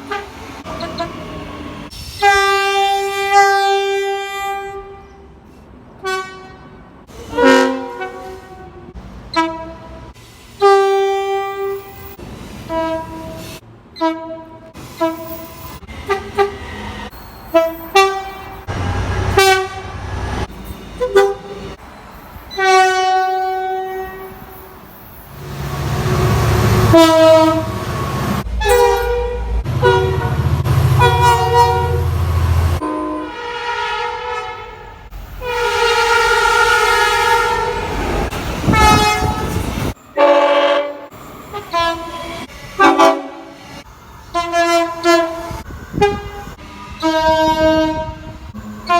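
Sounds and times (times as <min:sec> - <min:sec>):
passing train rumbling: 0:00.0 - 0:48.9
locomotive air horn blasts: 0:02.2 - 0:05.2, 0:06.0 - 0:12.0, 0:12.7 - 0:16.8, 0:17.5 - 0:21.7, 0:22.5 - 0:24.5, 0:25.4 - 0:43.6, 0:44.3 - 0:48.9.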